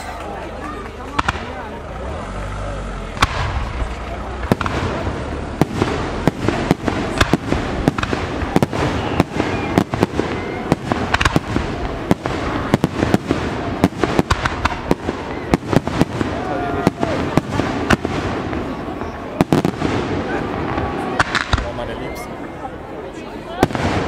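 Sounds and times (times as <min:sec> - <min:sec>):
fireworks launching and bursting: 0:00.9 - 0:24.0.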